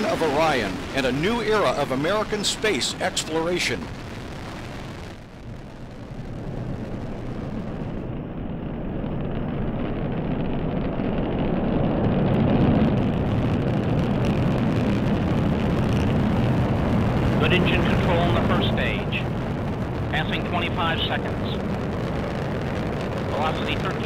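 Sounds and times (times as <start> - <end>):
rocket engines deep rumble: 0.0 - 24.0.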